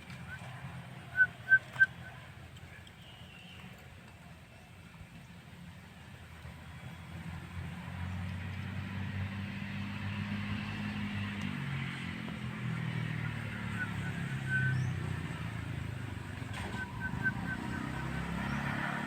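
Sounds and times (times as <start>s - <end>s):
vehicle engine drone: 0.0s - 19.0s.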